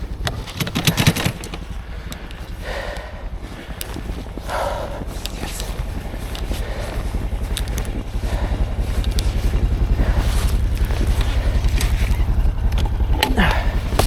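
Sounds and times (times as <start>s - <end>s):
snowmobile engine rumbling: 0.0s - 14.0s.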